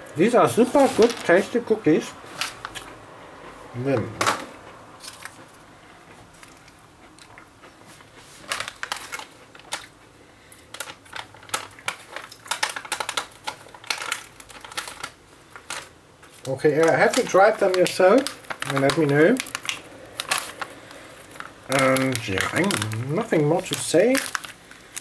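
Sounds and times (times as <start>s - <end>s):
crunchy biscuits being chewed: 0.3s - 25.0s.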